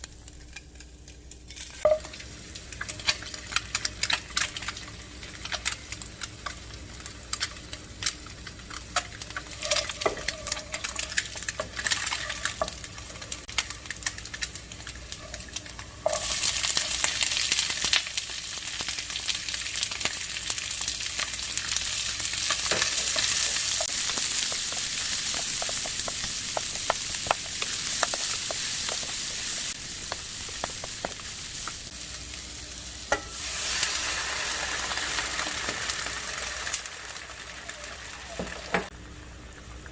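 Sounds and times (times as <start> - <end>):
food frying in a pan: 0.0 - 39.9
loud sizzle: 0.0 - 39.9.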